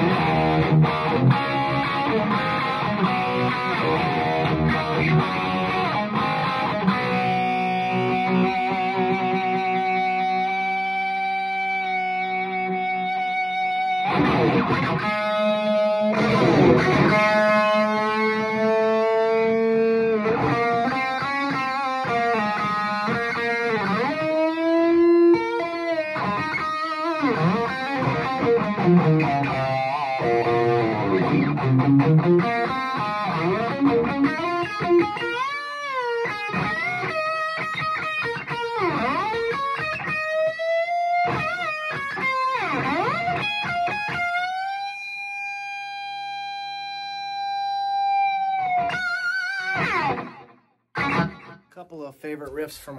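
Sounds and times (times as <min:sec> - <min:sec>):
electric guitar lead lines: 0:00.0 - 0:51.7.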